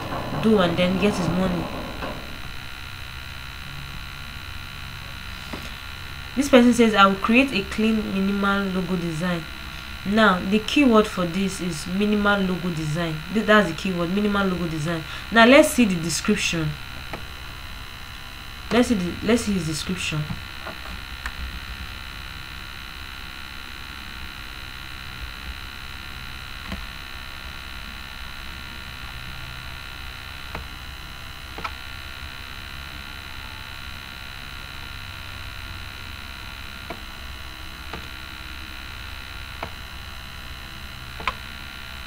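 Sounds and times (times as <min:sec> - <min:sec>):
electrical hum and hiss: 0:00.0 - 0:42.0.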